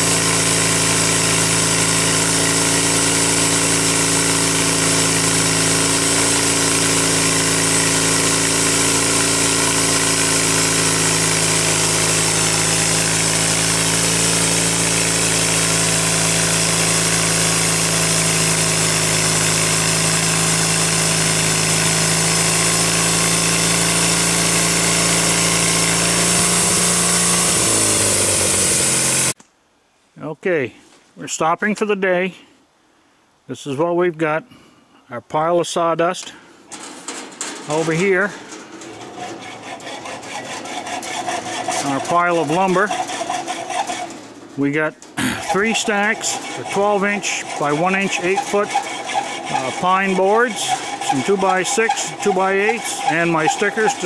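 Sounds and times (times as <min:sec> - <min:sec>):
sawmill engine running: 0:00.0 - 0:29.4, 0:36.2 - 0:54.0.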